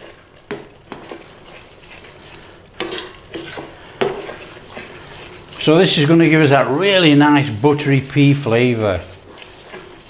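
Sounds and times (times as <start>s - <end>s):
spoon scraping metal pot: 0.0s - 10.0s
spoon stirring thick peas: 0.0s - 10.0s.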